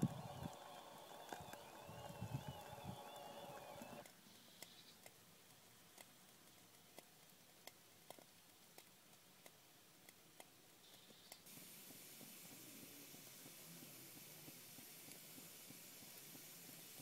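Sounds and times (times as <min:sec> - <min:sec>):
soft steady hiss: 0:00.0 - 0:17.0.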